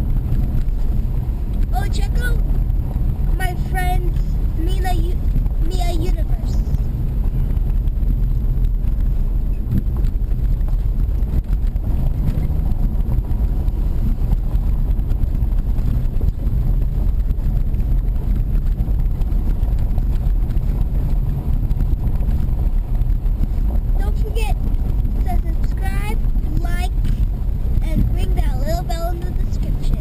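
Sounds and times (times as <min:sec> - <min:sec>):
vehicle rumble on dirt road: 0:00.0 - 0:30.0.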